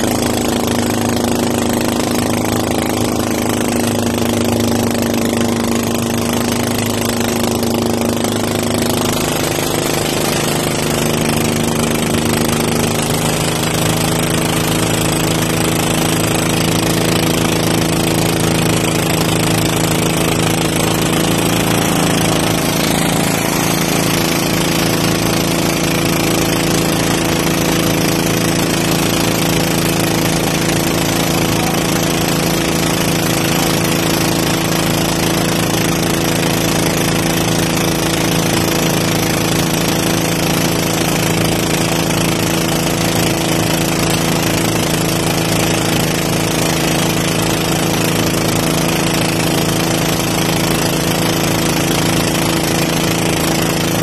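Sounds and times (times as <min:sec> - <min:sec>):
boat engine rattling: 0:00.0 - 0:54.0
water splashing along hull: 0:00.0 - 0:54.0.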